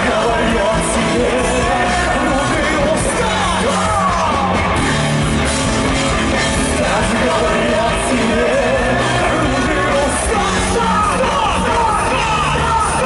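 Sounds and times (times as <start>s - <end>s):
loud singing and shouted vocals: 0.0s - 13.0s
rock band playing live: 0.0s - 13.0s.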